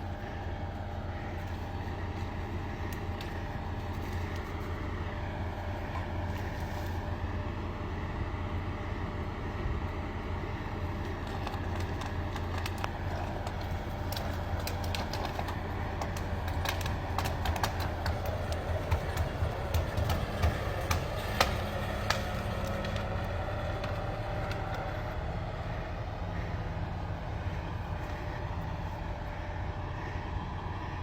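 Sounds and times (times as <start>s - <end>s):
bulldozer diesel engine: 0.0s - 31.0s.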